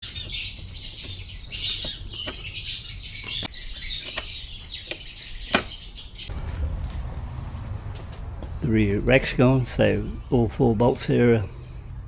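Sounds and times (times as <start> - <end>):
birds chirping: 0.0 - 7.3, 8.2 - 12.0.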